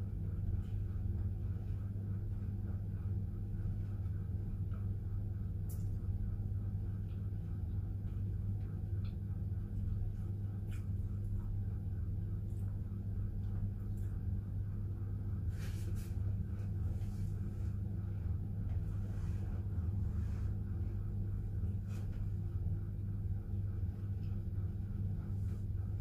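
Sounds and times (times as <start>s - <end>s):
appliance humming: 0.0s - 26.0s
deep rumble: 0.0s - 26.0s.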